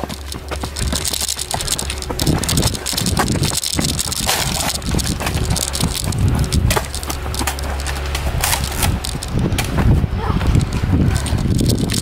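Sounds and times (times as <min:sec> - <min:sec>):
camera jostling: 0:00.0 - 0:12.0
footsteps running on dirt: 0:00.0 - 0:12.0
wind rumbling on microphone: 0:00.0 - 0:12.0.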